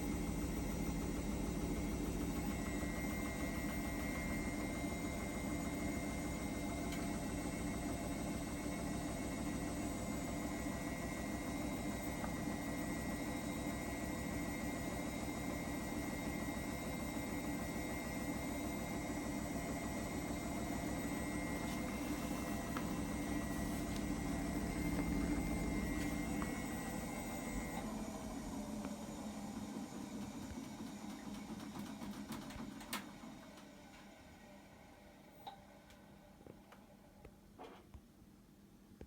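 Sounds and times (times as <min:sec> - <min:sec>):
washing machine running: 0:00.0 - 0:37.2.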